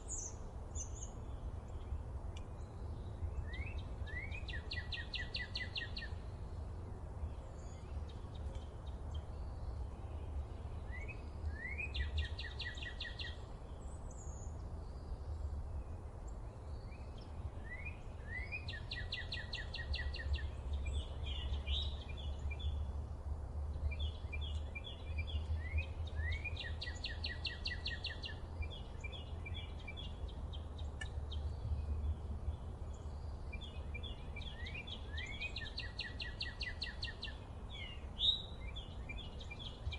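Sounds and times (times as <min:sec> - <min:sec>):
songbird singing trill: 0:00.0 - 0:39.9.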